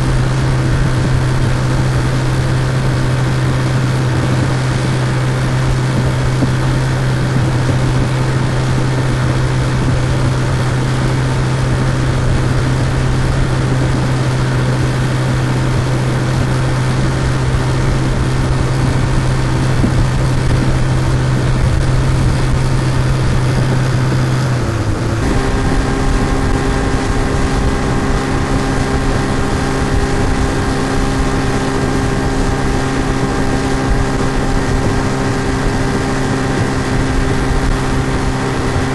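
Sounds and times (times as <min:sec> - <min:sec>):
outboard motor drone: 0:00.0 - 0:38.9.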